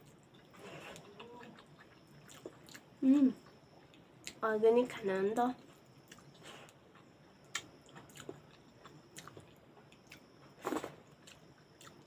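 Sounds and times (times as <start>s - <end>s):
person chewing food: 0.0s - 4.4s, 5.8s - 12.0s.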